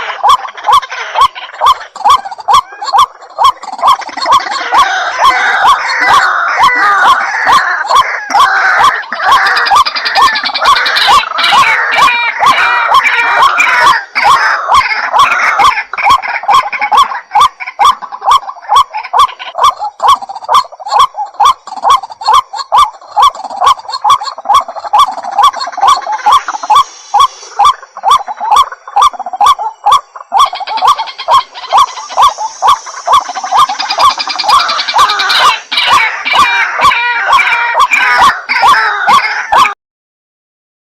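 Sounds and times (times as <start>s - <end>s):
higher bird calls: 0.0s - 39.7s
waterhen calling: 0.0s - 39.8s.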